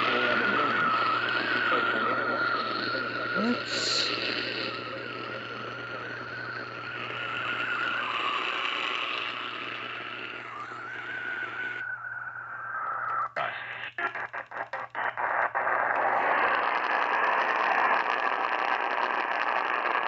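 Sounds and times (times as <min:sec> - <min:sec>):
radio static hiss: 0:00.0 - 0:11.8, 0:13.2 - 0:20.0
wavering radio whistle: 0:00.0 - 0:16.1.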